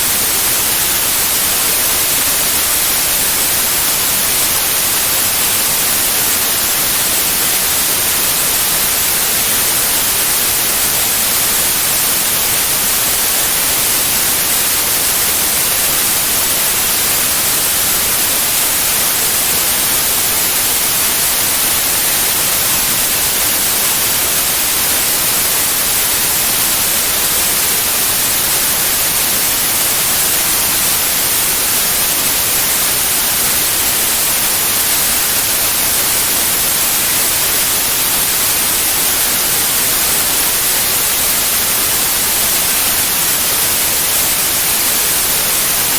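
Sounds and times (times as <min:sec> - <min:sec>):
white noise hiss: 0:00.0 - 0:45.9.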